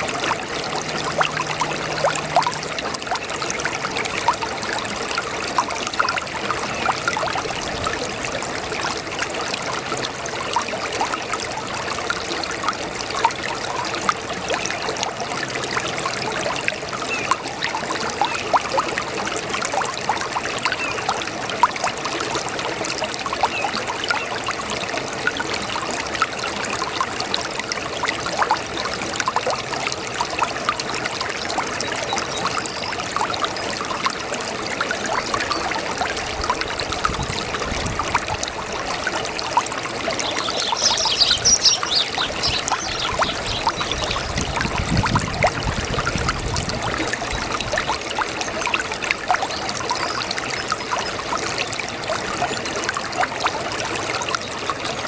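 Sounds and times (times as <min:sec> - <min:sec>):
brook babbling over stones: 0:00.0 - 0:55.0.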